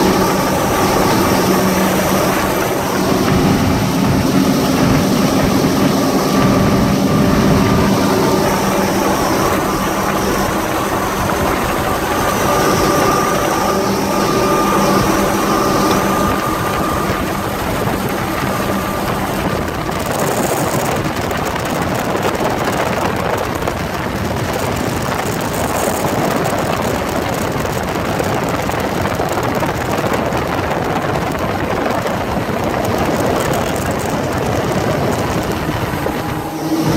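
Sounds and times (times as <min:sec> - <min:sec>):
boat engines droning: 0:00.0 - 0:36.9
rush of wind and water: 0:00.0 - 0:36.9.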